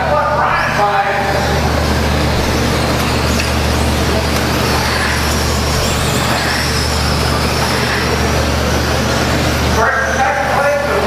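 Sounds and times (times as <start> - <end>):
faint high whine: 0.0 - 11.0
motor whine and tyre noise: 0.0 - 11.0.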